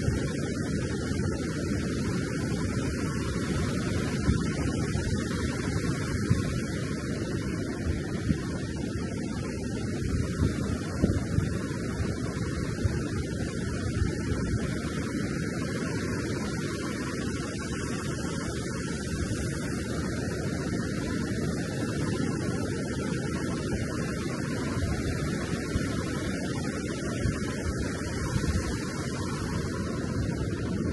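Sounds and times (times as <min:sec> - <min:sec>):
ocean surf on sandy shore: 0:00.0 - 0:30.9.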